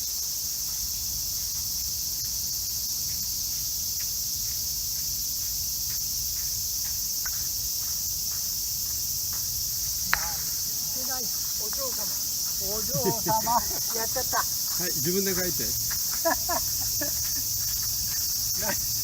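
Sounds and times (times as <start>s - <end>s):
insects chirring chorus: 0.0s - 19.0s.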